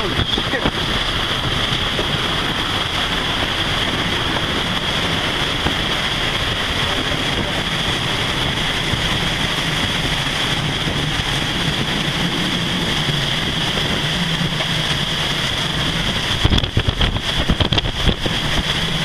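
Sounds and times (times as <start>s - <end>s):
boat engine humming: 0.0s - 19.0s
storm wind and rain roaring: 0.0s - 19.0s
wind gusts buffeting microphone: 0.0s - 19.0s.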